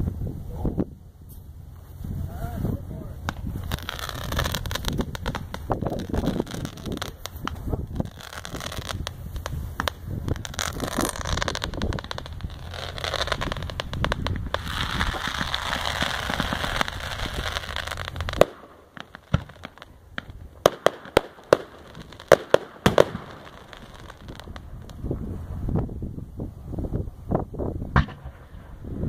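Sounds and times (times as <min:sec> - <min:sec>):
fireworks crackling: 0:00.0 - 0:29.0
fireworks bangs: 0:02.2 - 0:25.9, 0:27.9 - 0:29.0.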